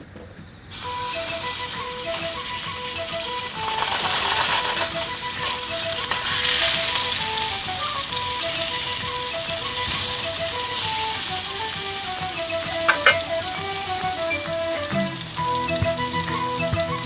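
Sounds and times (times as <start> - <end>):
patty sizzling: 0.7 - 17.0
plucked background music: 0.7 - 17.0.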